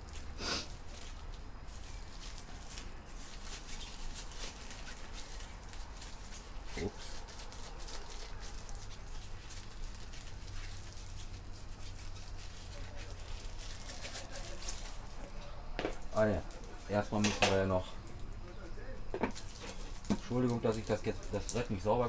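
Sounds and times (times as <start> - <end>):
rubber gloves rustling and crackling: 0.0 - 22.0
steady low hum: 0.0 - 22.0.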